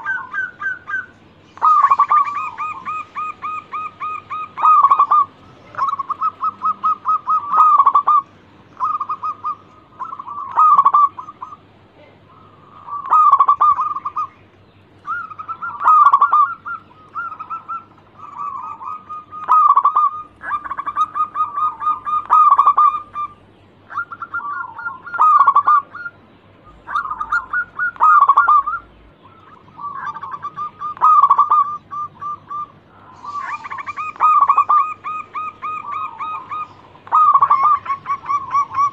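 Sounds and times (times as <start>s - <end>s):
zebra dove cooing: 0.0s - 38.9s.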